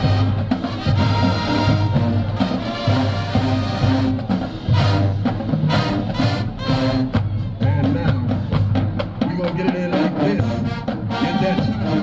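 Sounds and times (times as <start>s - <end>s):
brass holding low notes: 0.0s - 8.3s, 9.4s - 12.0s
steady drum beat: 0.0s - 12.0s.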